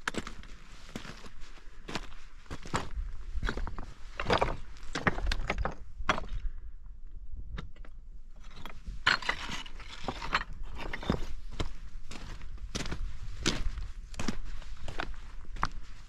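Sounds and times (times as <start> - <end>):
hiker footsteps: 0.0 - 6.6, 8.7 - 16.0.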